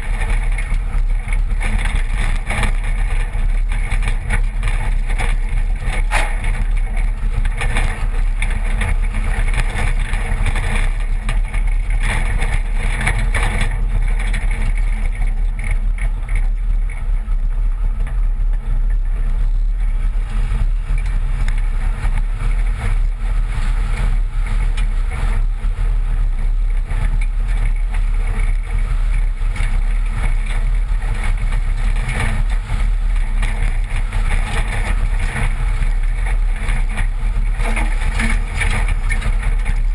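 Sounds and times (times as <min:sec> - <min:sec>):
tyres crackling over gravel: 0:00.0 - 0:39.9
wind and road noise rumble: 0:00.0 - 0:39.9.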